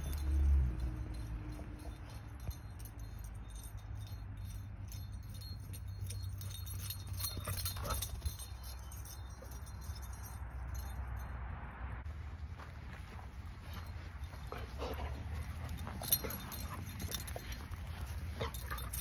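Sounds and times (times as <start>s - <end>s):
dog running clicking and jingling: 0.0s - 11.3s, 13.6s - 19.0s.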